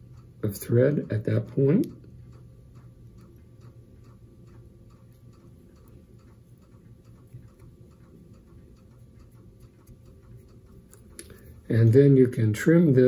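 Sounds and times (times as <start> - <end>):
faint regular ticking: 0.0 - 13.0
low steady hum: 0.0 - 13.0.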